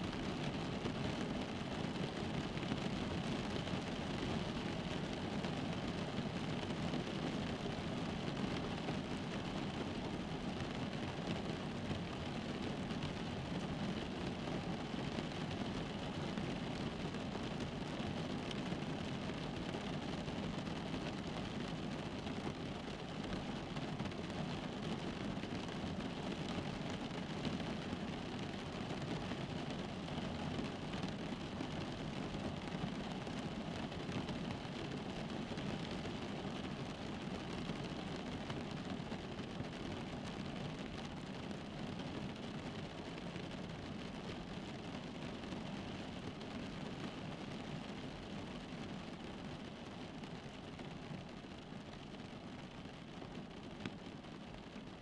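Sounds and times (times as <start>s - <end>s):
rain on a car roof: 0.0s - 55.0s.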